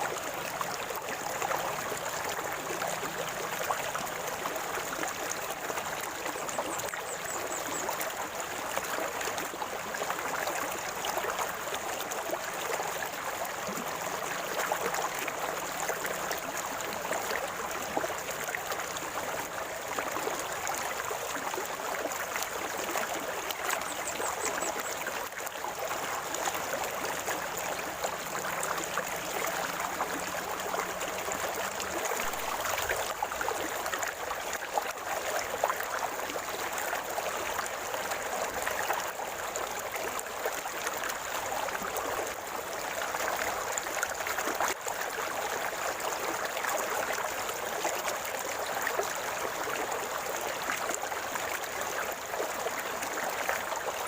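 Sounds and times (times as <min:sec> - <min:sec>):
river water gurgling: 0:00.0 - 0:54.0.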